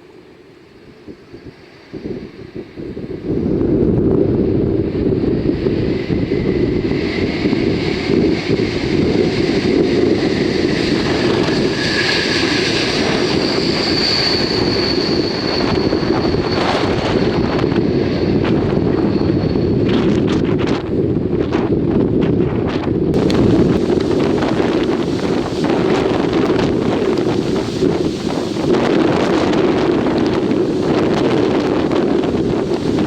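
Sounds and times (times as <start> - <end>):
jet engines whining: 0.0 - 33.0
wind buffeting microphone: 0.7 - 33.0.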